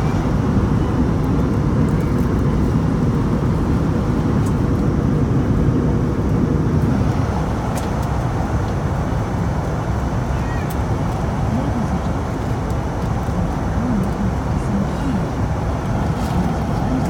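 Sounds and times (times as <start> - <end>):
jet airliner cabin rumble: 0.0 - 17.0.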